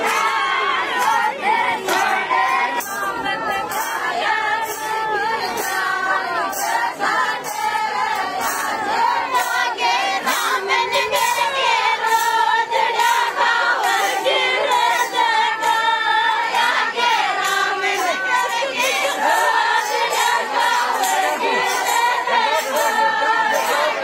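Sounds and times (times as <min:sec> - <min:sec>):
women singing folk song together: 0:00.0 - 0:24.0.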